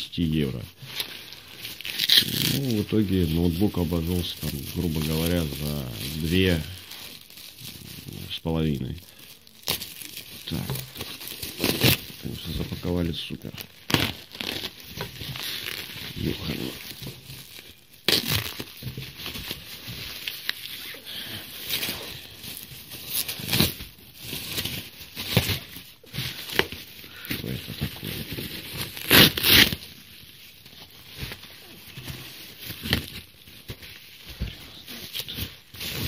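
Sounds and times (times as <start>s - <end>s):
bubble wrap crackles: 0.0s - 36.0s
plastic packaging rustling and crinkling: 0.0s - 36.0s.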